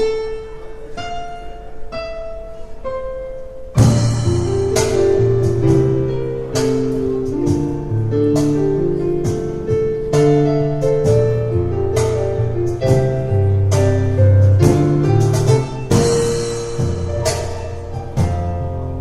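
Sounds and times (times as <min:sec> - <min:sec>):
piano playing firm chords: 0:00.0 - 0:19.0.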